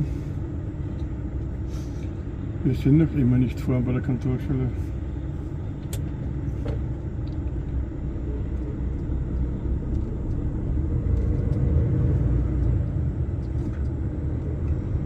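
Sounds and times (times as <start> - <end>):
diesel engine rumble: 0.0 - 15.0
road noise: 0.0 - 15.0.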